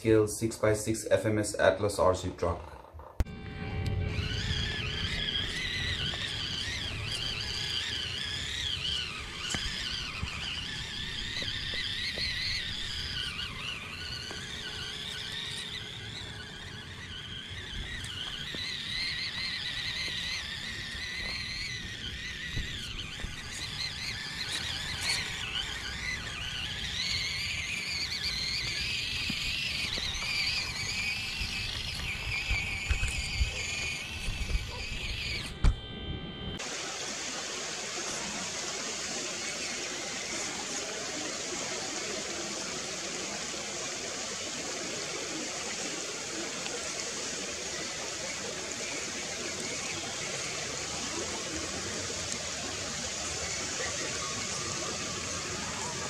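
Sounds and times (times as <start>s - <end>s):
electric toy car motor whining: 2.7s - 56.0s.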